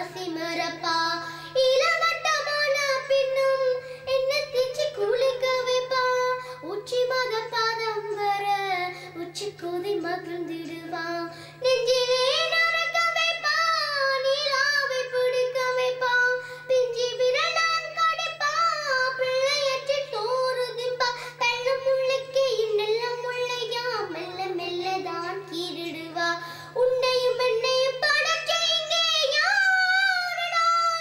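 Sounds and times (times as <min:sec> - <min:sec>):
girl singing into microphone: 0:00.0 - 0:31.0.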